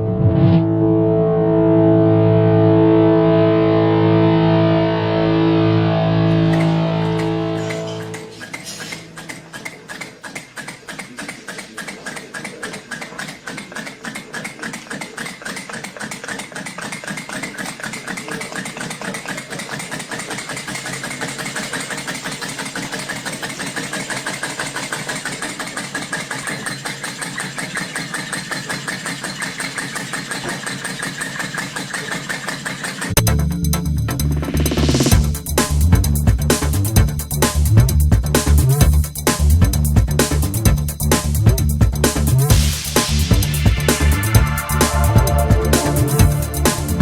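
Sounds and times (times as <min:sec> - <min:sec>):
steam engine exhaust beats: 0:04.0 - 0:47.0.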